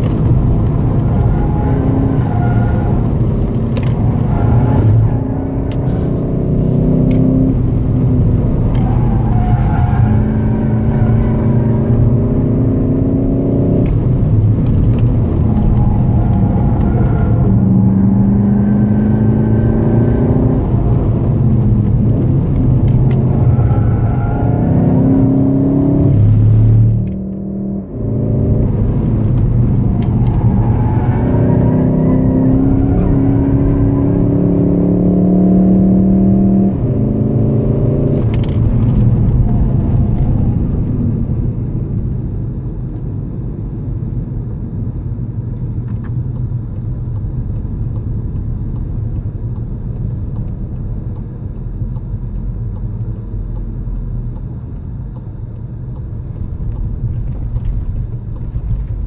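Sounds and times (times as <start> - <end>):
car engine at high revs: 0.0 - 59.0
tyre and road noise: 0.0 - 59.0.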